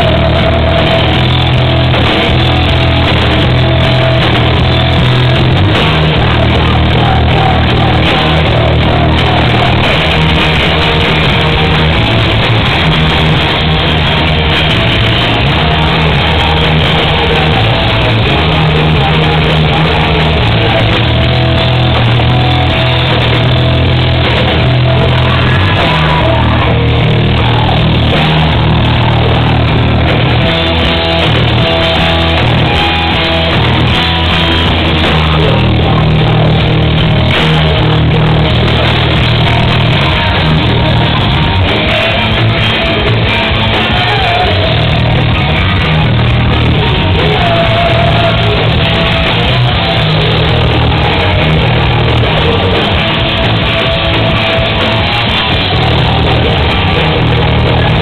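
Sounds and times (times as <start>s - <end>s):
person singing into microphone: 0.0s - 12.5s, 15.0s - 23.2s, 24.4s - 30.4s, 31.9s - 58.0s
drum kit: 0.0s - 58.0s
electric guitar: 0.0s - 58.0s.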